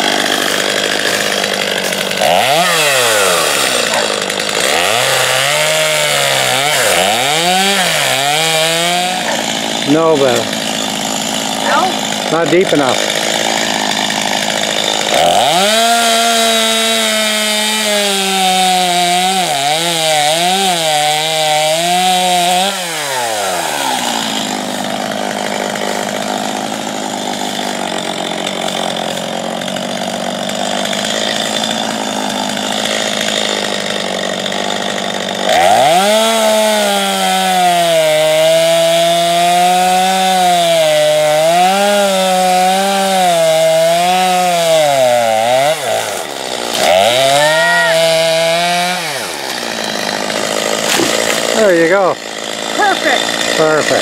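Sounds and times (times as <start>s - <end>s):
chainsaw revving and cutting: 0.0s - 54.0s.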